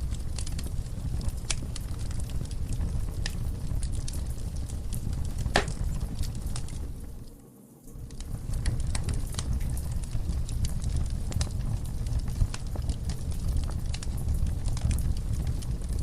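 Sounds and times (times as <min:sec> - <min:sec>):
fire crackles and pops: 0:00.0 - 0:16.0
fire roaring low: 0:00.0 - 0:16.0.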